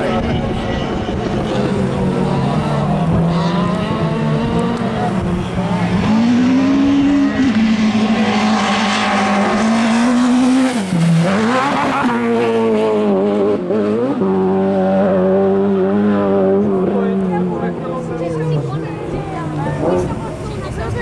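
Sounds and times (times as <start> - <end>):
racing car engines at high revs: 0.0 - 21.0.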